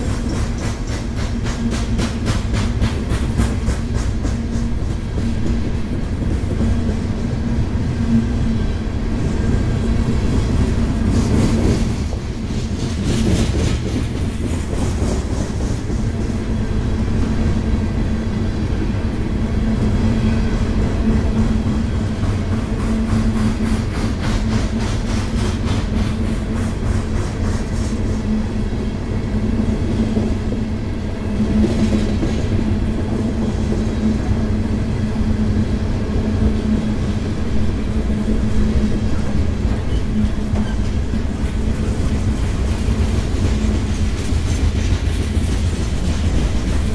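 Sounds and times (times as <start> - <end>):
freight train wheels rumbling: 0.0 - 46.9.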